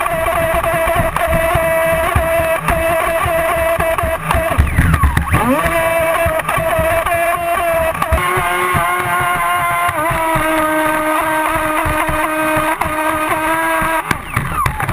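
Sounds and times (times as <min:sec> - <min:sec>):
speedboat motor whining: 0:00.0 - 0:14.9.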